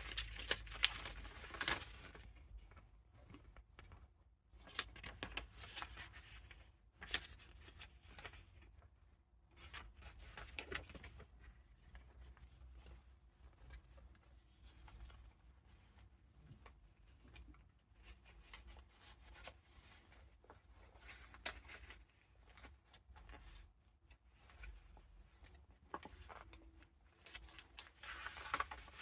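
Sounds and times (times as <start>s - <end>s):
paper rustling: 0.0s - 4.0s, 4.6s - 8.4s, 9.6s - 29.0s.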